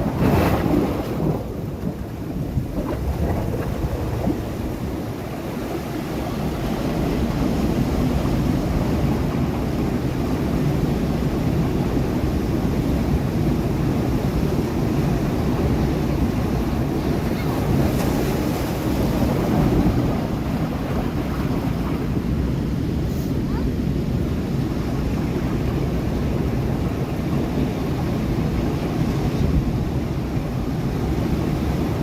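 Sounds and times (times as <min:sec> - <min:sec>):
ocean surf washing against rocks: 0:00.0 - 0:32.0
wind buffeting microphone: 0:00.0 - 0:32.0.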